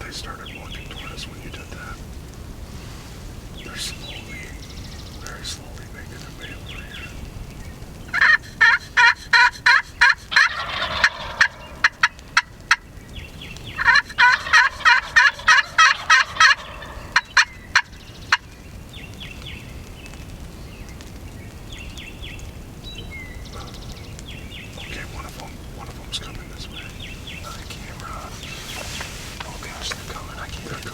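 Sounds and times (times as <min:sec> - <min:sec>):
turkeys gobbling: 0:00.0 - 0:02.4, 0:03.2 - 0:18.6, 0:22.4 - 0:30.9
small birds chirping: 0:00.0 - 0:30.9.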